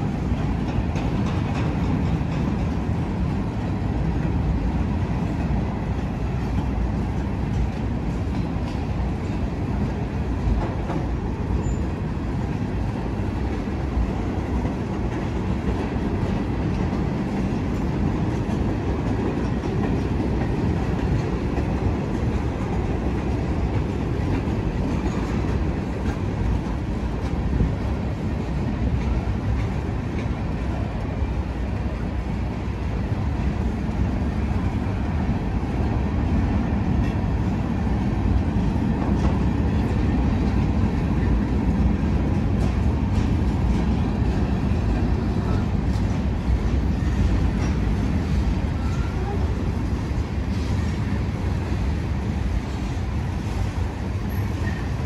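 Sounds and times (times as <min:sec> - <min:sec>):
freight train wheels rumbling on rail: 0:00.0 - 0:55.0
light clicks of train wheels: 0:00.0 - 0:55.0.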